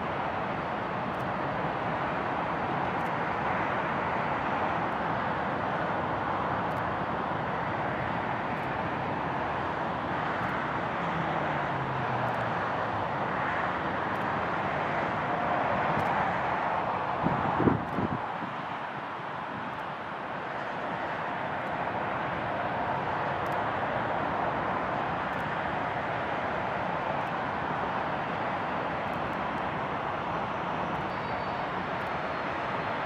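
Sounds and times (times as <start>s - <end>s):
jet aircraft engines: 0.0s - 33.0s.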